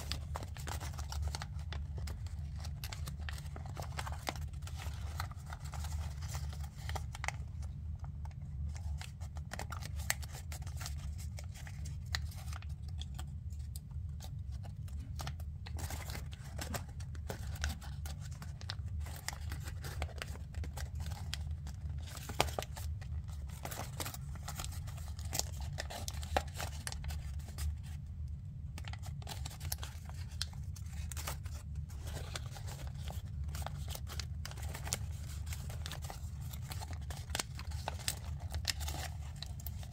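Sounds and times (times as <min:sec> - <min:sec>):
paper crinkling and folding: 0:00.0 - 0:39.9
steady low hum: 0:00.0 - 0:39.9.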